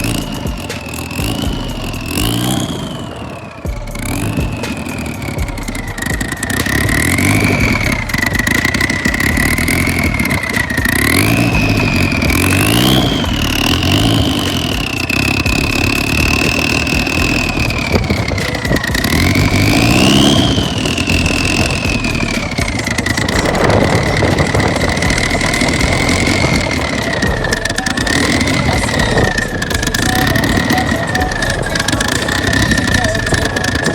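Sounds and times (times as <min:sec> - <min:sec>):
car engine idling and revving: 0:00.0 - 0:33.9
high engine whine: 0:00.0 - 0:33.9.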